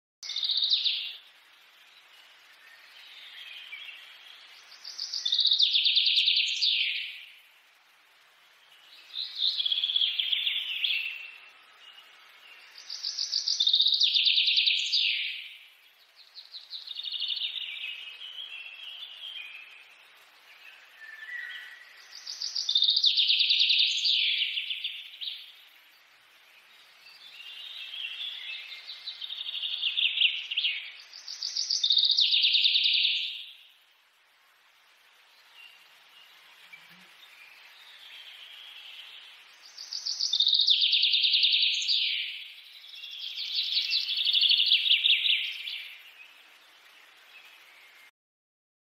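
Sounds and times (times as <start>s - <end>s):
soft bird chirps: 0.2s - 48.1s
songbird singing: 0.2s - 48.1s.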